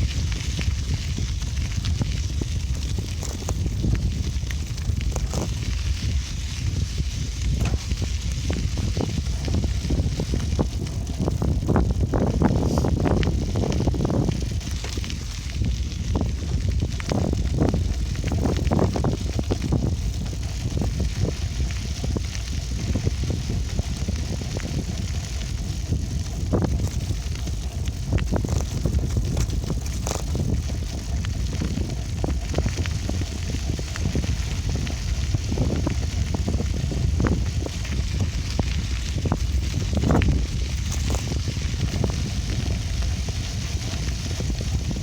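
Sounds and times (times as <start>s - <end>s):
bicycle knocks and rattles: 0.0s - 45.0s
wind rumble on microphone: 0.0s - 45.0s.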